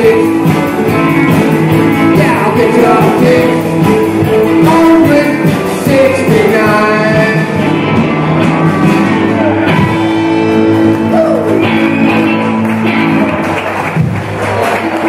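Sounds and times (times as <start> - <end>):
electric guitars: 0.0 - 15.0
rock band playing live: 0.0 - 15.0.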